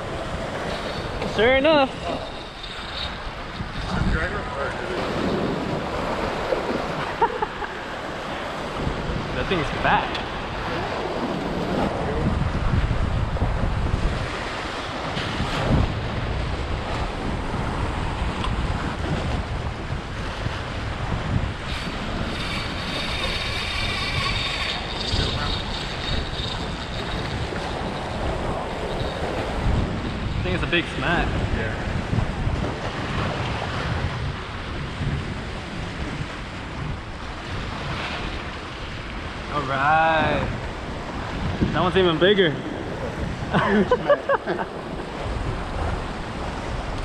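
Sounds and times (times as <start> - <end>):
surf washing in: 0.0 - 47.0
wind buffeting microphone: 0.0 - 47.0.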